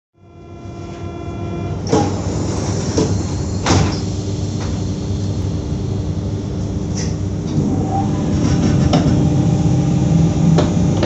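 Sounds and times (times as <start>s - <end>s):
multi-tone whine: 0.2s - 11.0s
train equipment humming: 0.2s - 11.0s.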